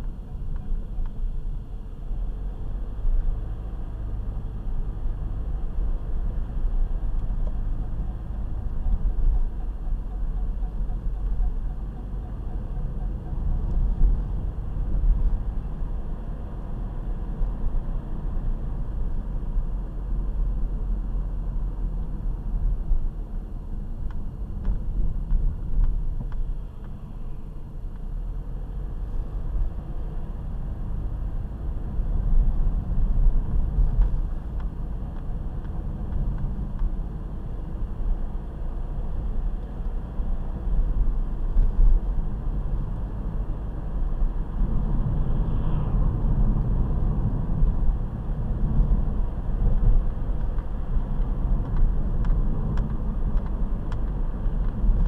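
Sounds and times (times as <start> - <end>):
car road rumble: 0.0 - 55.0.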